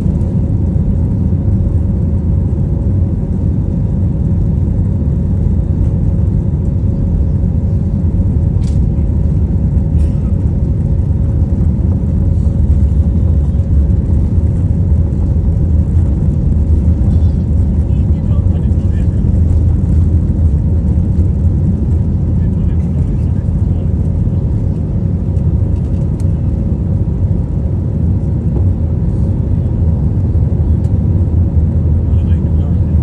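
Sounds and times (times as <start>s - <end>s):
jet airliner taking off: 0.0s - 33.0s.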